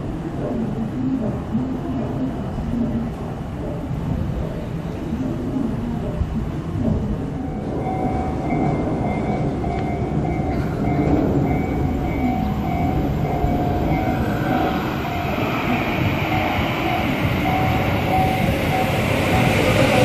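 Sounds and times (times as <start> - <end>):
electric train running on rails: 0.0 - 20.0.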